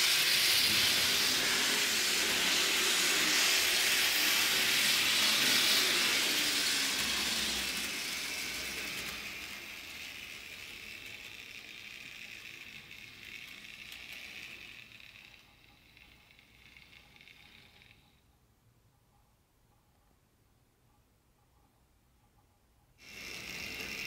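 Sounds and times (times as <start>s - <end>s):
model train whirring on rails: 0.0s - 18.5s, 22.2s - 24.0s.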